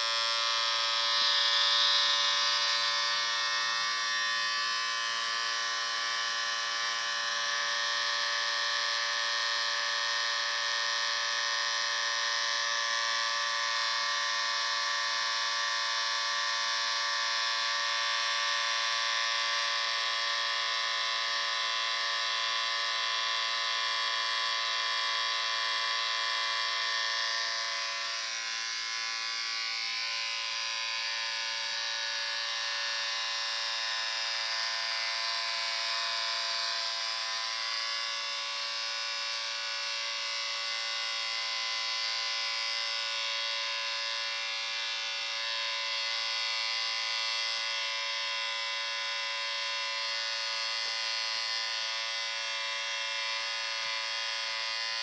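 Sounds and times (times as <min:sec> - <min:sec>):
electric shaver buzzing: 0:00.0 - 0:55.0.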